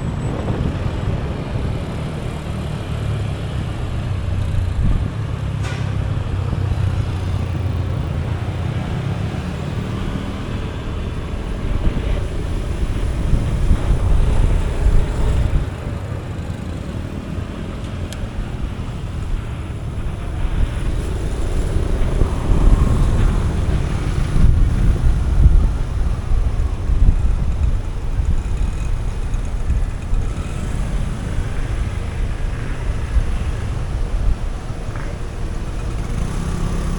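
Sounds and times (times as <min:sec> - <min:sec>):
motorcycle engine running: 0:00.0 - 0:36.9
road noise: 0:00.0 - 0:36.9
wind buffeting microphone: 0:00.0 - 0:36.9.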